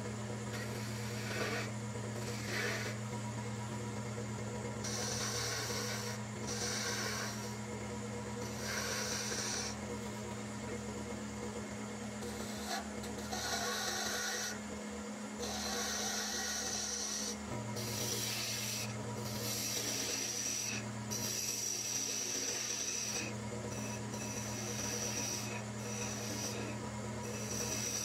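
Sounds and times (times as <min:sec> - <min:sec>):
turning tool cutting wood: 0:00.0 - 0:03.5, 0:04.6 - 0:10.5, 0:12.2 - 0:14.7, 0:15.4 - 0:28.0
lathe humming: 0:00.0 - 0:28.0.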